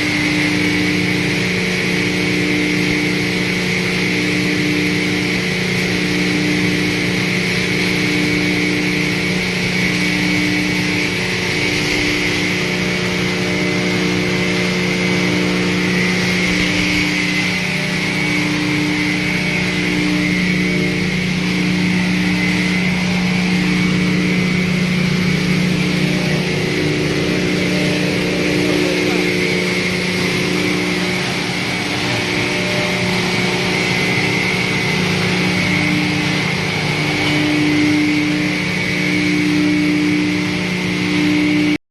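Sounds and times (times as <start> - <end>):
hammer mill crushing wood chips: 0.0 - 41.8.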